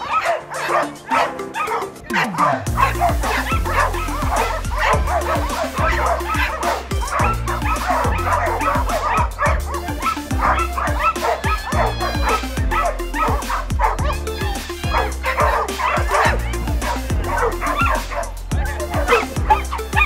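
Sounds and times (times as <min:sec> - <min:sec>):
dogs barking and yipping: 0:00.0 - 0:20.0
music with beat and bass: 0:00.5 - 0:20.0.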